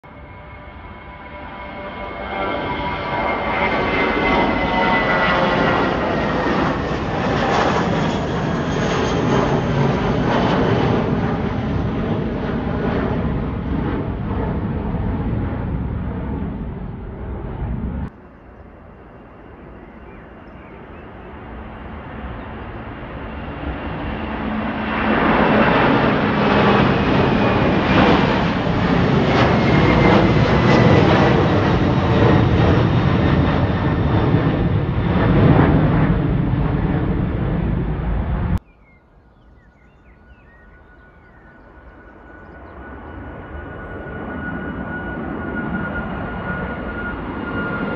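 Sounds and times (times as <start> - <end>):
aircraft engine noise: 0.0 - 47.9
airliner engines whining: 0.1 - 47.9.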